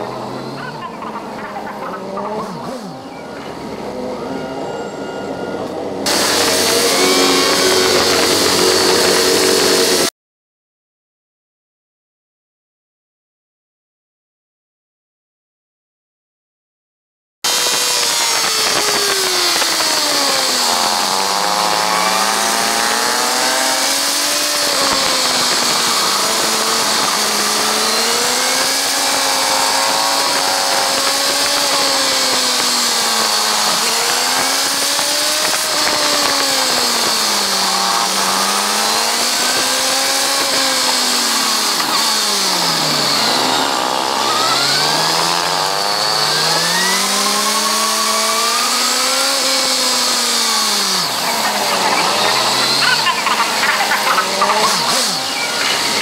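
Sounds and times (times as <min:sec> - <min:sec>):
motorcycle engine revving: 0:00.0 - 0:10.1, 0:17.5 - 0:56.0.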